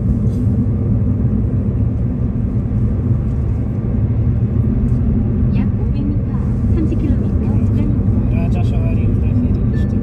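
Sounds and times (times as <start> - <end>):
road vehicle rumble: 0.0 - 10.0.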